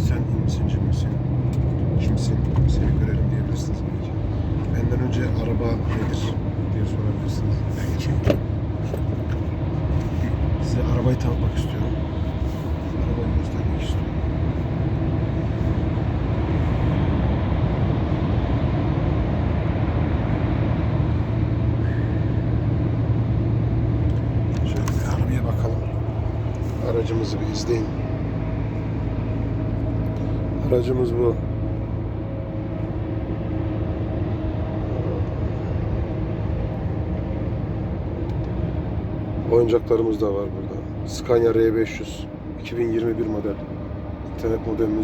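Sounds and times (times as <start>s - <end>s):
road noise: 0.0s - 45.0s
truck diesel engine drone: 0.0s - 45.0s.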